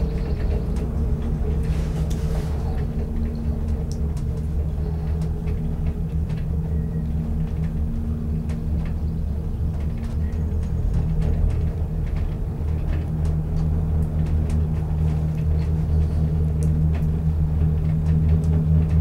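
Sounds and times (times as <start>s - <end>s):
gondola cabin rumble: 0.0s - 19.0s
light clicks and rattles: 0.0s - 19.0s
mechanical hum: 0.0s - 19.0s.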